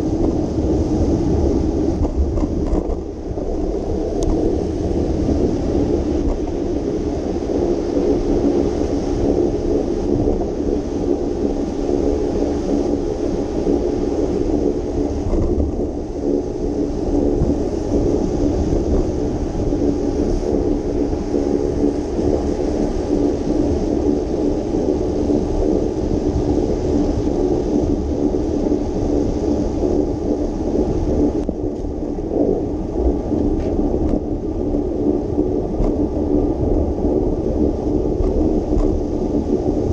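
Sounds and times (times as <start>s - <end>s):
low steady hum: 0.0s - 39.9s
wind buffeting microphone: 0.0s - 39.9s.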